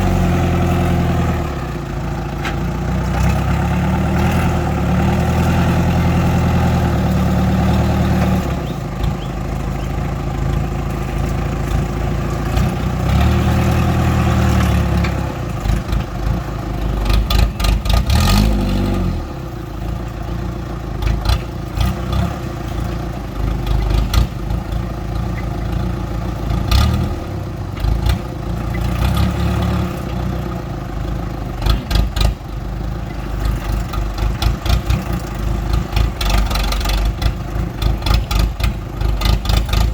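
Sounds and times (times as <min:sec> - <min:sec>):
truck engine revving: 0:00.0 - 0:20.0, 0:21.0 - 0:30.7, 0:33.2 - 0:39.9.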